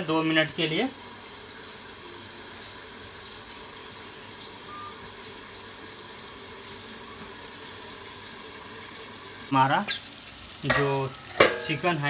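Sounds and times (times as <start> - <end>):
meat sizzling under a lid: 0.0 - 12.0.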